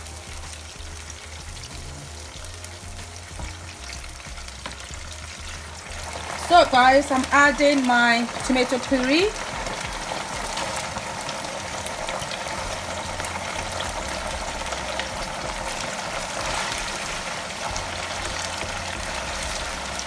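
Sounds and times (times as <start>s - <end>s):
oil sizzling in a frying pan: 0.0s - 20.0s.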